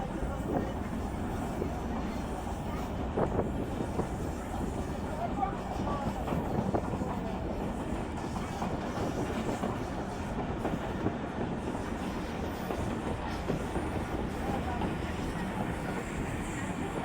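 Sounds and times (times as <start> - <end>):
train clatter: 0.0 - 17.0
train wheels rumbling on rails: 0.0 - 17.0.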